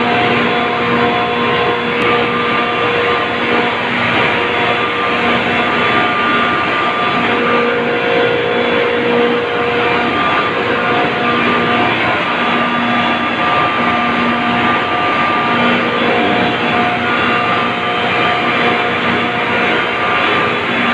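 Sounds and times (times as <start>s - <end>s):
refrigeration compressors running: 0.0s - 20.9s.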